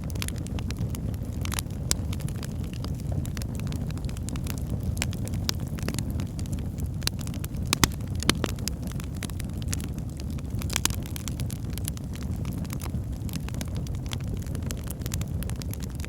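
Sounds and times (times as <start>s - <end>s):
low rumble of flames: 0.0s - 16.0s
fire crackling and popping: 0.1s - 16.0s.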